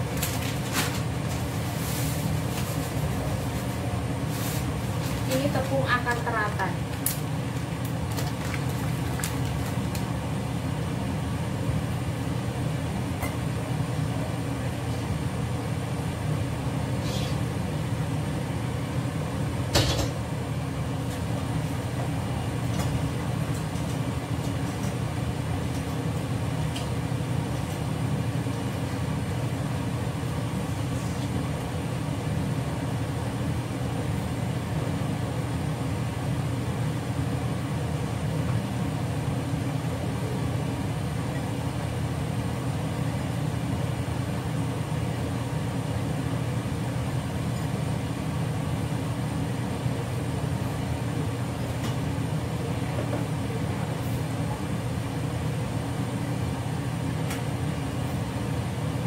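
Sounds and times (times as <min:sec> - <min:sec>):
kitchen background rumble: 0:00.0 - 0:59.0.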